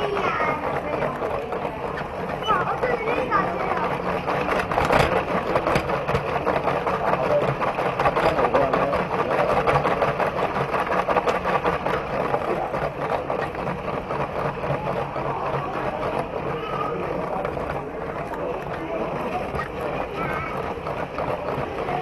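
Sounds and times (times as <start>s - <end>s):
toy train wheels rattling on track: 0.0s - 22.0s.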